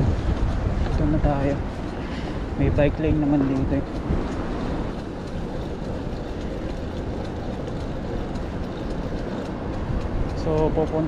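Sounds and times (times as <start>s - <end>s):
city street traffic rumbling: 0.0s - 11.0s.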